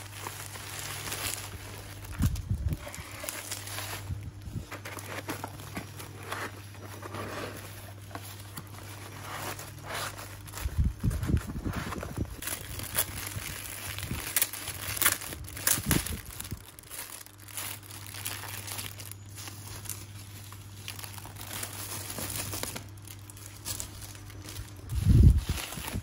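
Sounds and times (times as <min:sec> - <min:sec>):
plastic bags crinkling: 0:00.0 - 0:26.0.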